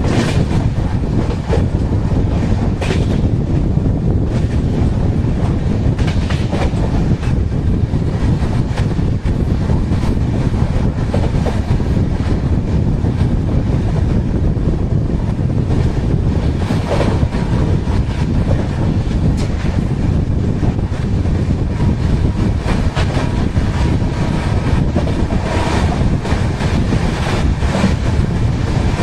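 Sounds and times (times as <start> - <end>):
train wheels rumbling and clattering: 0.0 - 29.0.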